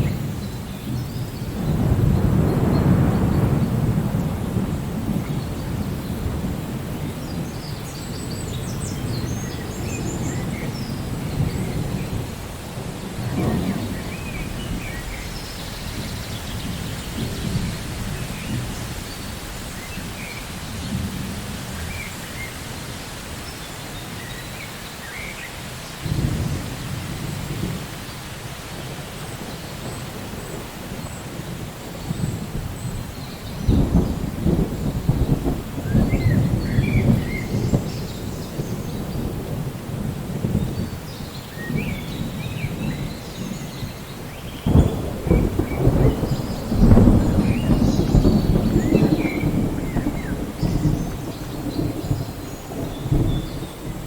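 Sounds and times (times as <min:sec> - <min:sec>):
deep rolling thunder: 0:00.0 - 0:22.5, 0:26.0 - 0:28.1, 0:28.7 - 0:54.0
steady rain: 0:00.0 - 0:54.0.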